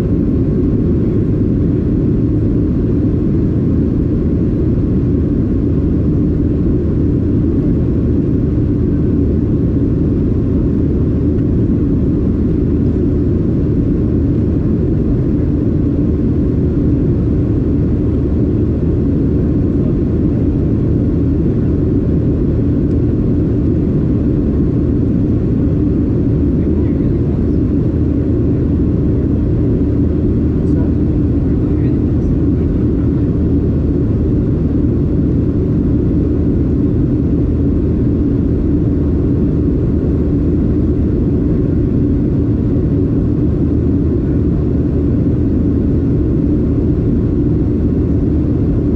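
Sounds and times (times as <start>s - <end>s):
airliner cabin drone: 0.0s - 48.9s.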